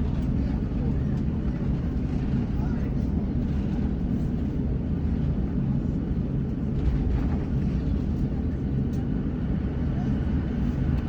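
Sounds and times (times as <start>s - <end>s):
low rumble inside aircraft cabin: 0.0s - 11.0s.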